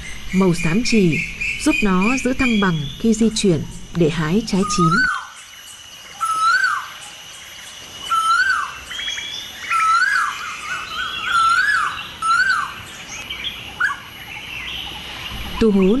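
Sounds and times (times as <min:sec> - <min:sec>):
faint high bird chirps: 0:00.0 - 0:07.2, 0:07.9 - 0:16.0.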